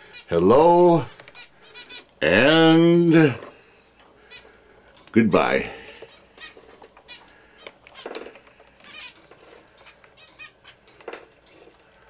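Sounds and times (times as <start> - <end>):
finches chirping: 0.0 - 4.7, 5.3 - 11.7.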